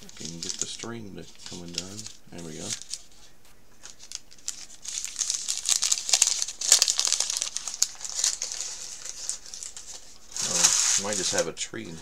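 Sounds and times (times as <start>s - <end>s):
wrapping paper crinkling: 0.0s - 12.0s.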